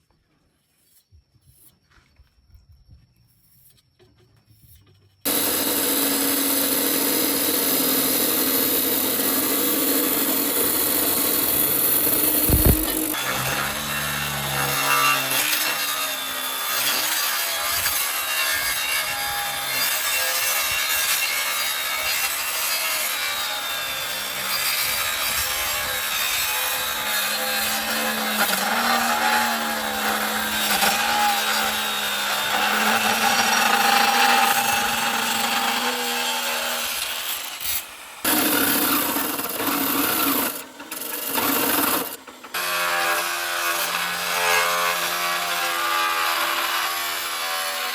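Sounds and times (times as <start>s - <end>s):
tool rasping material: 4.6s - 47.9s.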